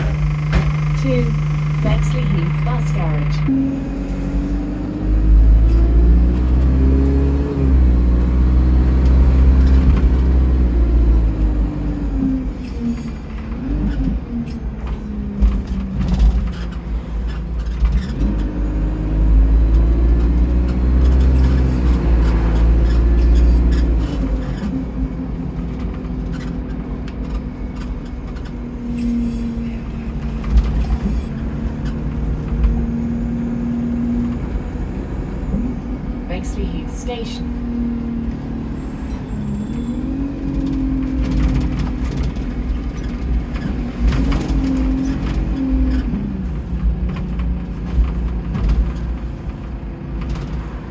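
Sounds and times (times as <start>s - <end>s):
bus engine accelerating: 0.0s - 50.9s.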